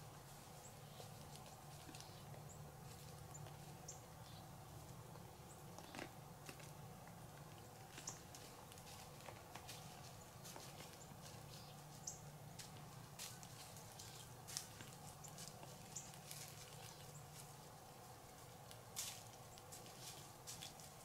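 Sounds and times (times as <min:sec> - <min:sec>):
deer stepping: 0:00.2 - 0:21.0
deer chewing crunches: 0:00.4 - 0:11.7, 0:12.5 - 0:21.0.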